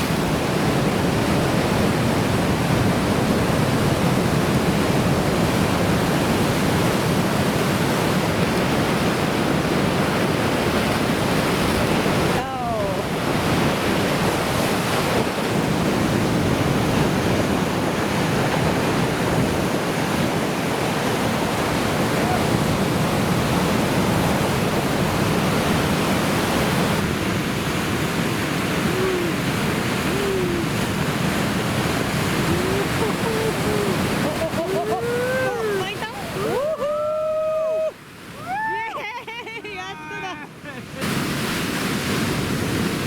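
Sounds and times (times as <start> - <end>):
surf breaking: 0.0 - 38.6, 41.0 - 43.0
wind on microphone: 0.0 - 38.7.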